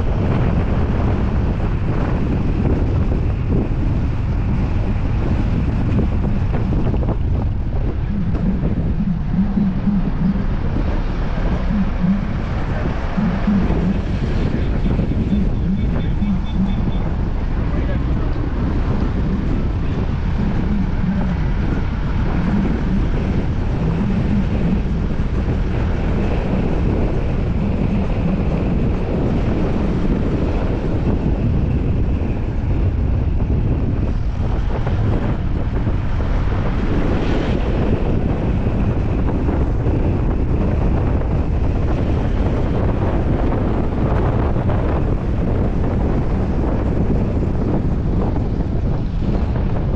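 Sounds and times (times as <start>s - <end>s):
car rumble: 0.0s - 49.9s
tyres on road: 0.0s - 49.9s
wind rushing over microphone: 0.0s - 49.9s.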